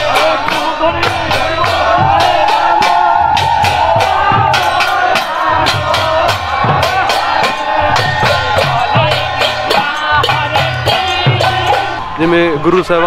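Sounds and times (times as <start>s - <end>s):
barrel drums beating: 0.0s - 12.2s
group singing: 0.0s - 12.2s.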